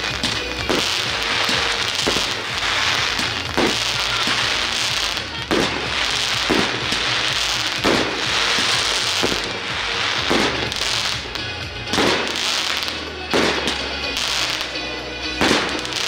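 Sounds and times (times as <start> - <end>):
firework bangs: 0.0 - 16.0
fireworks crackling: 0.0 - 16.0
music: 0.0 - 16.0.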